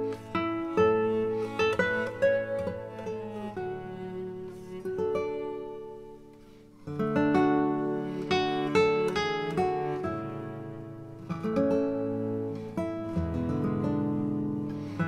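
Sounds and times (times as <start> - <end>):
plucked instrumental music: 0.0 - 15.0.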